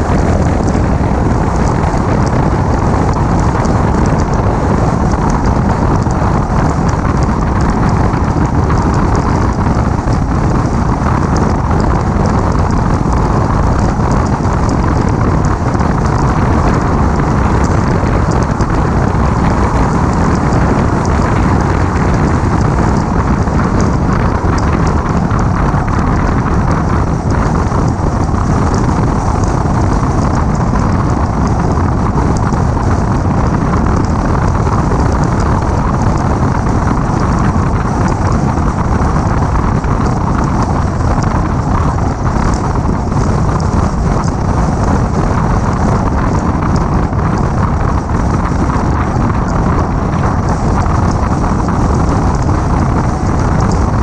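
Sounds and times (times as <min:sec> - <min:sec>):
car engine and tyre noise: 0:00.0 - 0:54.0
wind rushing over microphone: 0:00.0 - 0:54.0.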